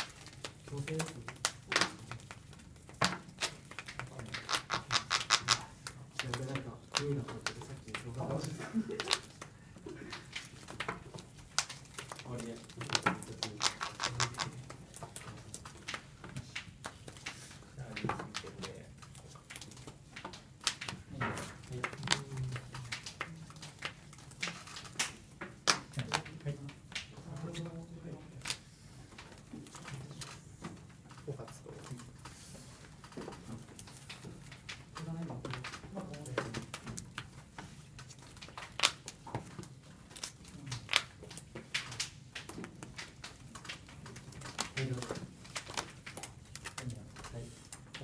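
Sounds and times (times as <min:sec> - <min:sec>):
trading cards clicking and tapping: 0:00.0 - 0:48.0.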